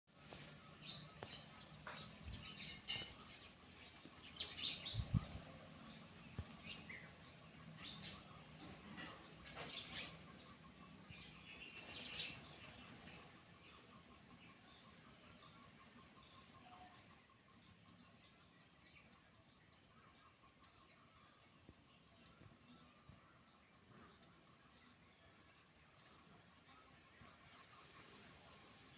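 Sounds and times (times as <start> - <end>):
faint outdoor hiss: 0.1 - 28.9
small birds chirping: 0.1 - 28.9.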